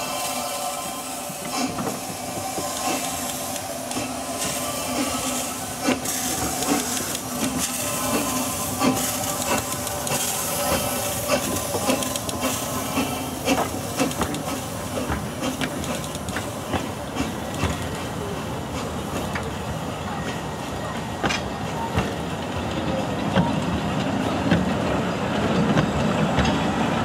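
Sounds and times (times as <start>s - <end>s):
steam locomotive hissing: 0.0s - 27.0s
train wheels clicking on rails: 0.0s - 27.0s.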